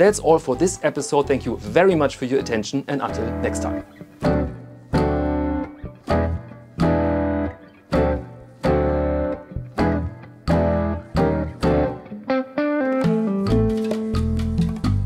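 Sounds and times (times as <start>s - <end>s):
plucked string chords with bass: 0.0s - 15.0s.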